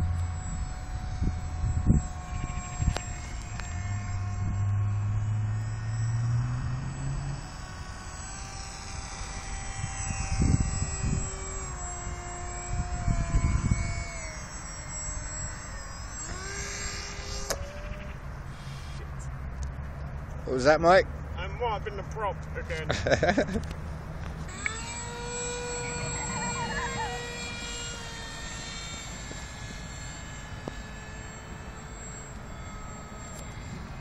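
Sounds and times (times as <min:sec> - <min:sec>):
model jet motor whining: 0:00.0 - 0:34.0.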